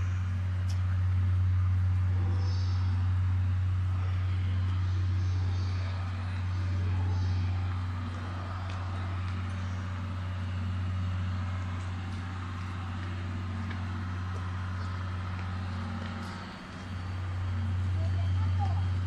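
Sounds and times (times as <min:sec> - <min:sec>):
deep electrical hum: 0:00.0 - 0:19.0.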